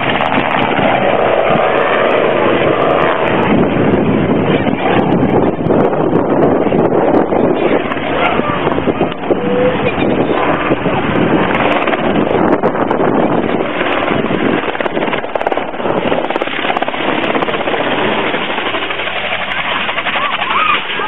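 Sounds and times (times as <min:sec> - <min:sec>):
helicopter flying overhead: 0:00.0 - 0:21.0.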